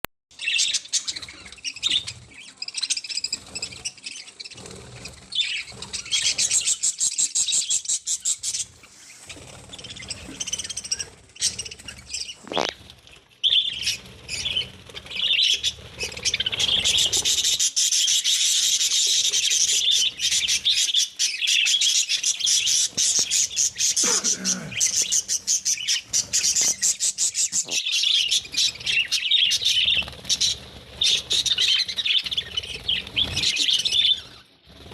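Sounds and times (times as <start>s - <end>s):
budgerigars chattering: 0.4s - 12.8s, 13.4s - 34.5s.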